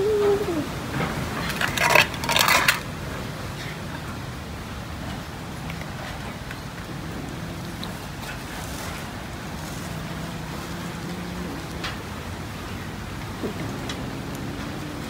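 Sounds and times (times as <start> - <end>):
background hiss: 0.0 - 15.0
cats chewing wetly: 0.1 - 15.0.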